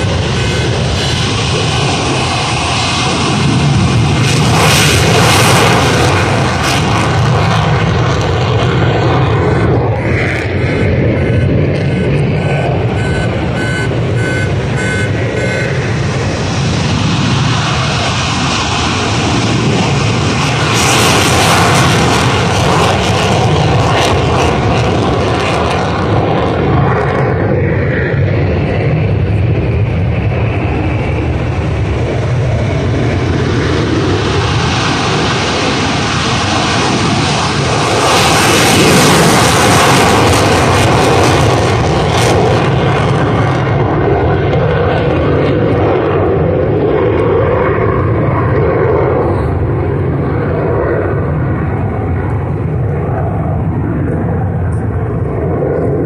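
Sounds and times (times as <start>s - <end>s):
fighter jets taking off: 0.0s - 56.0s.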